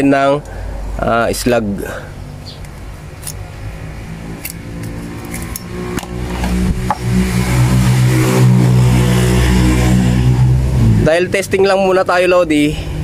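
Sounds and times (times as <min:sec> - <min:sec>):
vehicle engine running: 0:01.9 - 0:13.0.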